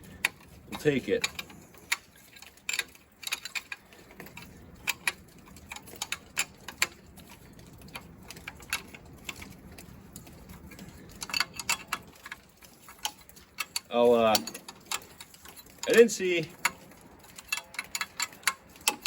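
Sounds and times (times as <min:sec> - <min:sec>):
metallic clicks of hand tools: 0:00.0 - 0:09.5, 0:10.3 - 0:19.0.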